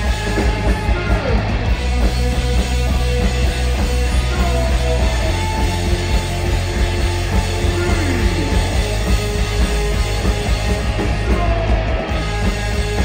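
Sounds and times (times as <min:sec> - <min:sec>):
drums: 0:00.0 - 0:13.0
electric guitar: 0:00.0 - 0:13.0.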